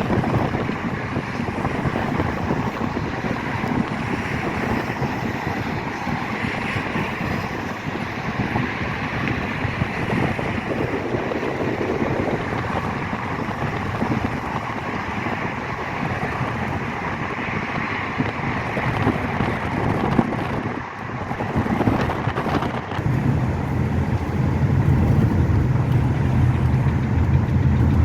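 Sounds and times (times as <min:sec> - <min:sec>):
vehicle rumble: 0:00.0 - 0:28.0
wind buffeting microphone: 0:00.0 - 0:28.0.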